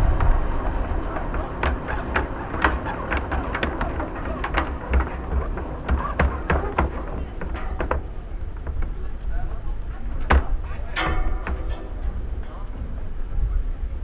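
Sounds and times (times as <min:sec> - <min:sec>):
low rumble: 0:00.0 - 0:14.0
sharp clicks and knocks: 0:00.1 - 0:12.7.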